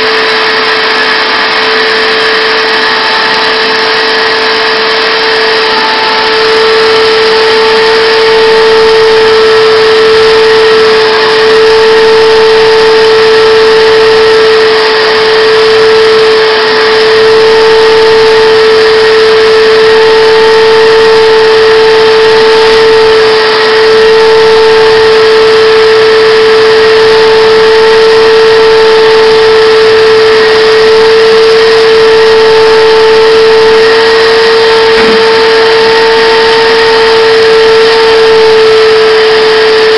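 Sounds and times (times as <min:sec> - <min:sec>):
shop vac whining: 0:00.0 - 0:39.9.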